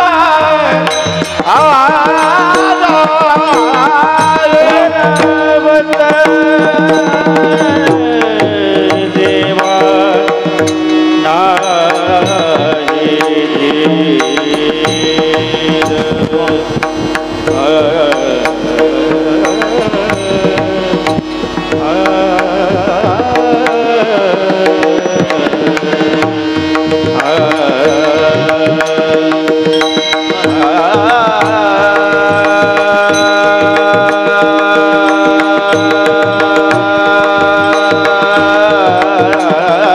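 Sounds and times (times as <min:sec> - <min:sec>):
hand drum beat: 0:00.0 - 0:39.9
person singing: 0:00.0 - 0:39.9
steady drone: 0:00.6 - 0:39.9.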